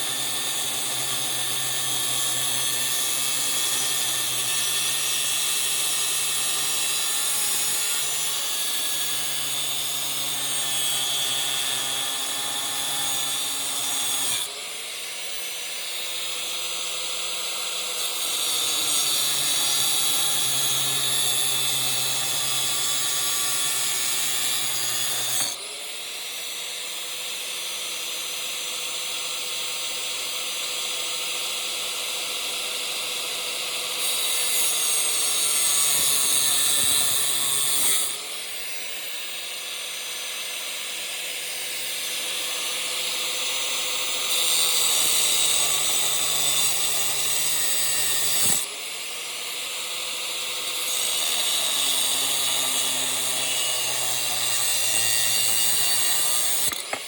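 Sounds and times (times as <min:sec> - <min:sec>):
angle grinder cutting metal: 0:00.0 - 0:28.8, 0:30.2 - 0:57.0.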